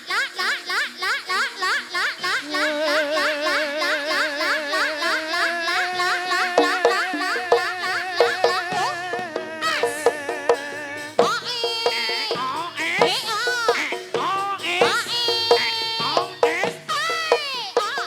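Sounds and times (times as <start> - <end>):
instrumental dance music: 0.0 - 18.0.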